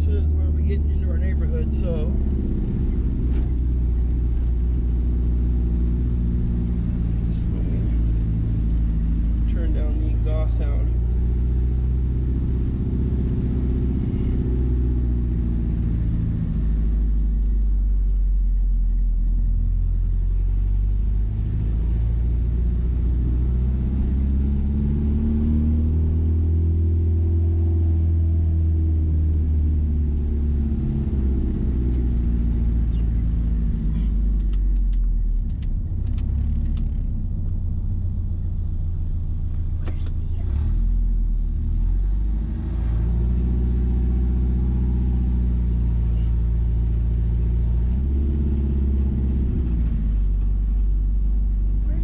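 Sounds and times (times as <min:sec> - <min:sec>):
pickup engine rumbling: 0:00.0 - 0:52.0.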